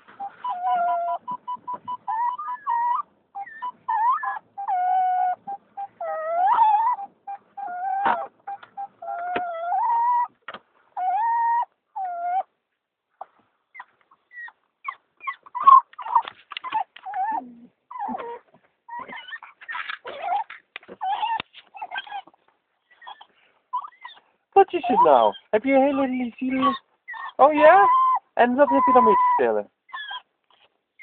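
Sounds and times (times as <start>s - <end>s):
dog whining and crying: 0.1s - 10.4s, 11.0s - 12.6s, 13.2s - 31.0s
dog yelping: 0.1s - 10.4s, 11.0s - 12.5s, 13.7s - 31.0s.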